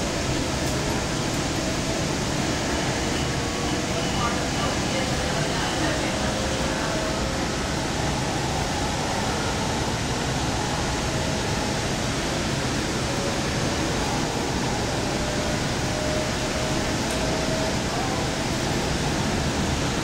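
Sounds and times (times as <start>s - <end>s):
faint whine: 0.0s - 20.0s
light rail train rushing: 0.0s - 20.0s.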